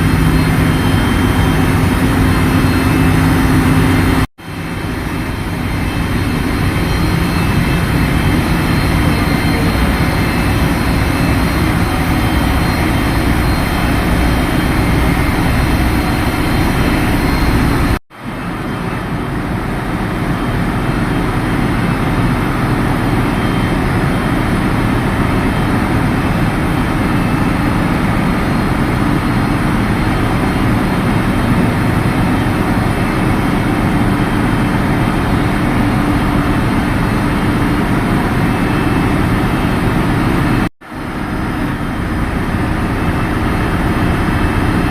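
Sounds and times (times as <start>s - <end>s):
engine room machinery din: 0.0s - 44.9s.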